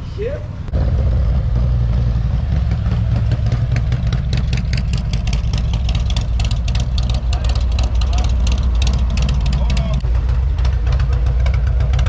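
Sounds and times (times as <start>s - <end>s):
motorcycle engine at low speed: 0.4s - 12.0s.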